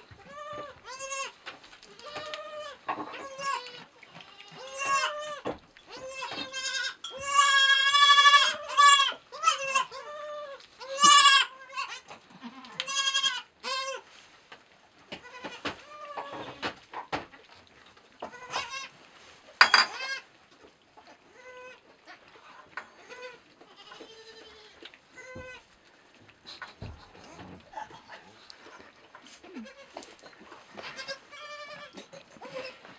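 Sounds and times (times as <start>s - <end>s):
goat kids bleating: 0.0s - 14.1s, 15.1s - 16.6s, 18.2s - 18.9s, 19.9s - 20.3s, 21.3s - 22.2s, 22.9s - 25.7s, 26.8s - 32.9s.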